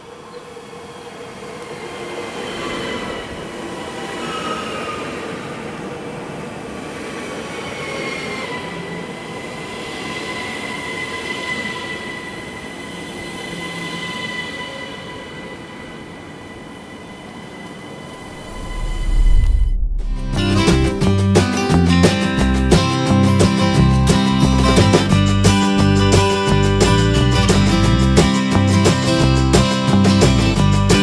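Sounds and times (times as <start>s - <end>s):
electric train whine: 0.0s - 31.0s.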